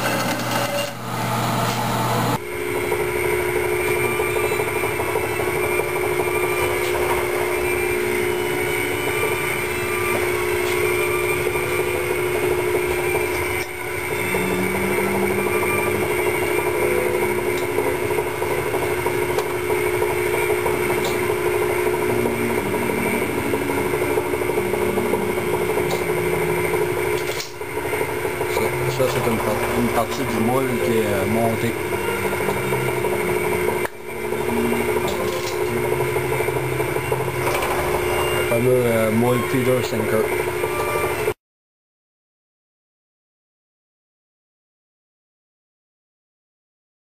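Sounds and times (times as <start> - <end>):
machine hum: 0.0 - 41.4
high steady tone: 2.4 - 41.4.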